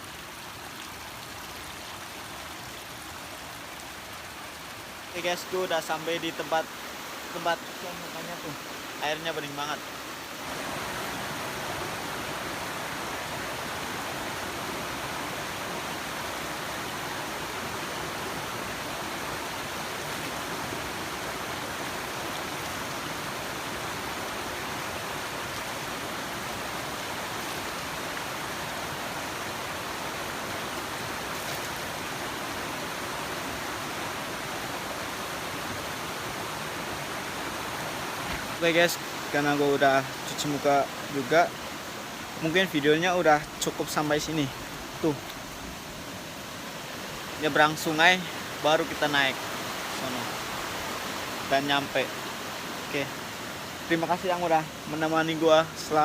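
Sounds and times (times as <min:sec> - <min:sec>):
stream water running over stones: 0:00.0 - 0:56.0.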